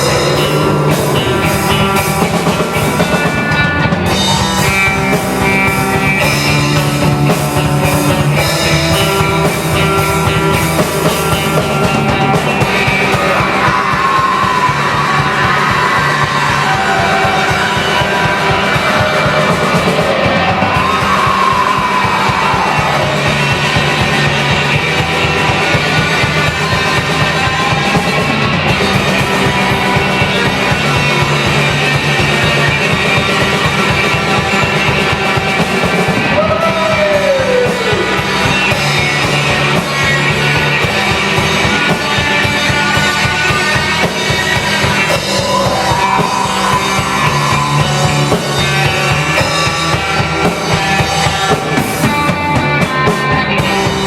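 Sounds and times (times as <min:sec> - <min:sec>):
rock band music: 0:00.0 - 0:54.0.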